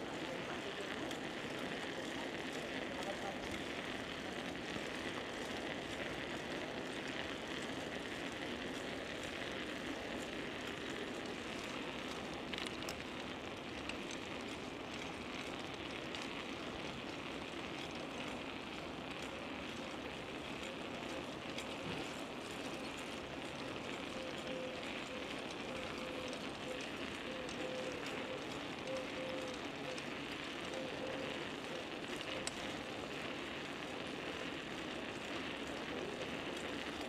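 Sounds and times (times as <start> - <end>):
bicycle tyres rolling: 0.0 - 37.0.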